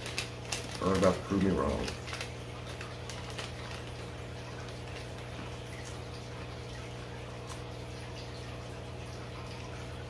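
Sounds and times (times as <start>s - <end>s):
aquarium filter water trickling: 0.0s - 10.0s
low electrical hum: 0.0s - 10.0s.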